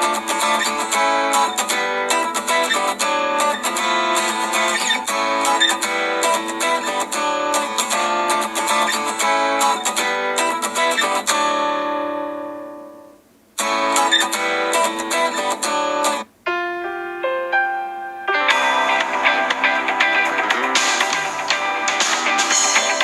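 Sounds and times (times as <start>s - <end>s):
plucked guitar ringtone: 0.0s - 23.0s.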